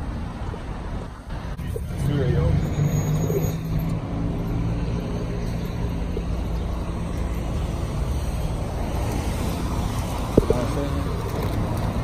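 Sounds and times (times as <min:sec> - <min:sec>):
passing cars rumble: 0:00.0 - 0:12.0.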